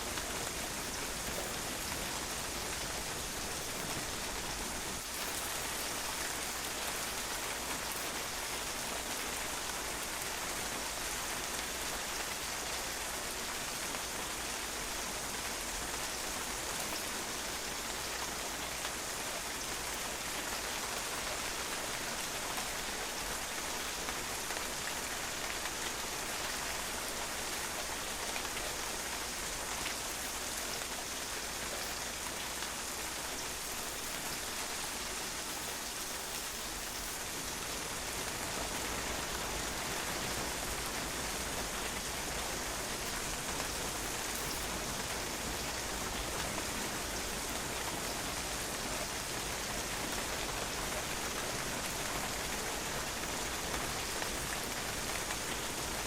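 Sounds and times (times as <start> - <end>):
rain pattering on hard surface: 0.0 - 56.0.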